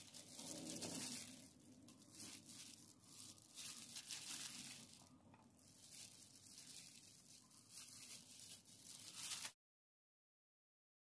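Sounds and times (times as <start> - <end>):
plastic glove crinkling: 0.0 - 9.6.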